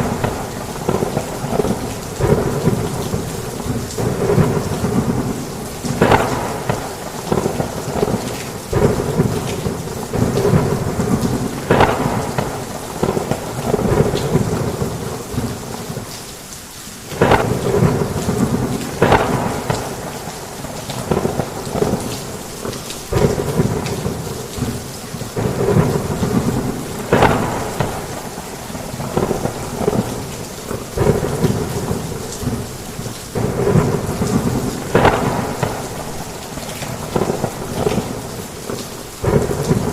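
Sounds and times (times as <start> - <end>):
sharp thunder cracks: 0.0 - 16.0, 17.1 - 39.9
thunder rumbling: 0.0 - 16.1, 17.1 - 39.9
heavy rain: 0.0 - 39.9.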